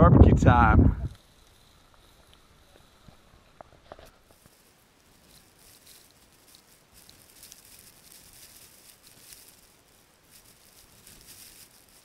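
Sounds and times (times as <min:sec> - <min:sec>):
gusting wind hiss: 0:00.0 - 0:12.0.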